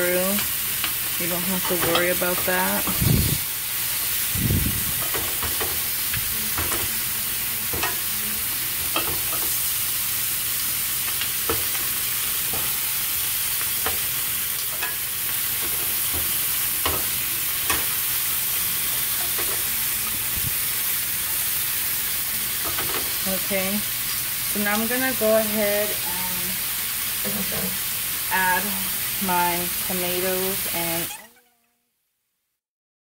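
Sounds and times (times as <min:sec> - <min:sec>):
chicken sizzling in oil: 0:00.0 - 0:31.2.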